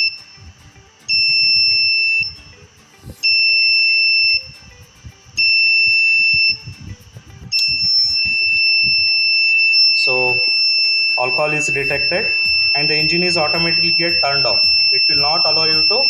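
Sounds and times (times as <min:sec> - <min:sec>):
piezo buzzer alarm beeps: 0:00.0 - 0:02.6, 0:03.2 - 0:16.0.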